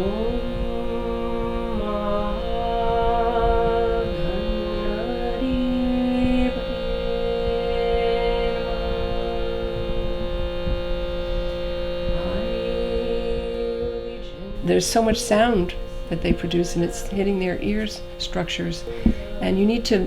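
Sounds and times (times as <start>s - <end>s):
person singing sliding notes: 0.0s - 20.0s
steady many-toned drone: 0.0s - 20.0s.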